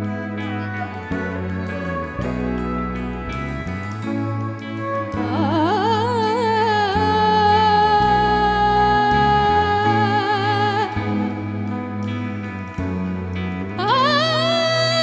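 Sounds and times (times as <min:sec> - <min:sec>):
lead melody with vibrato: 0:00.0 - 0:15.0.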